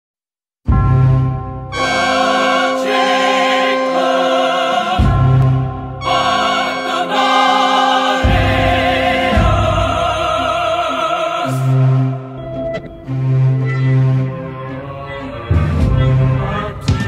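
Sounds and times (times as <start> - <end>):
choir singing with vibrato: 1.7 - 16.9.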